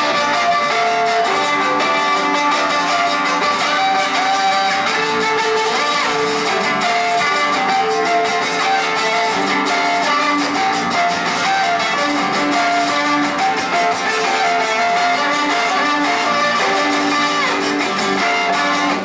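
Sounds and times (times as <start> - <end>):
strummed acoustic guitar: 0.0 - 19.0
violin melody: 0.0 - 19.0.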